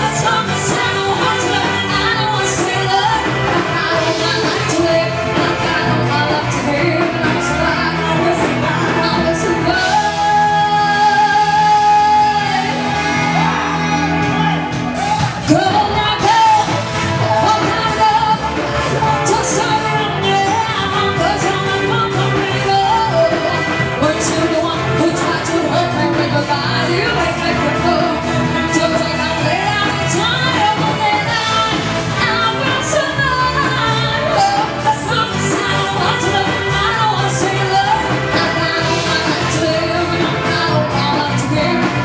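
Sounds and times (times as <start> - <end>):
women singing: 0.0 - 13.8, 15.4 - 42.0
electric guitar: 0.0 - 42.0.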